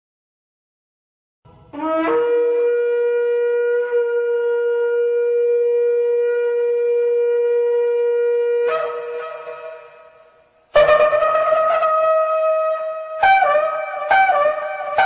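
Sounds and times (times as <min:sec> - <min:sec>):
shofar blast: 0:01.7 - 0:15.0.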